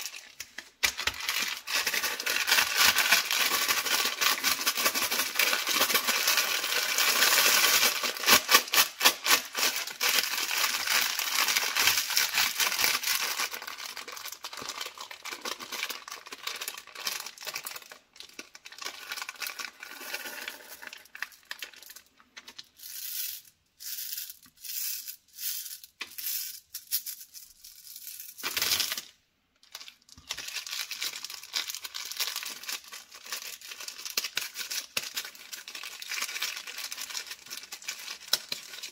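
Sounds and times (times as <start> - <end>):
wrapper crinkling: 0.0 - 22.1, 28.2 - 38.9
candies rattling in a palm: 0.0 - 38.9
plastic candy bag crinkling: 0.0 - 38.9.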